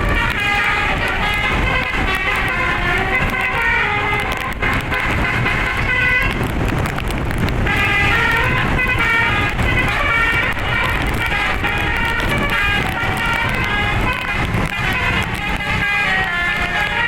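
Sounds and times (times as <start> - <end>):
air horns playing a melody: 0.0 - 17.0
engine and road rumble: 0.0 - 17.0.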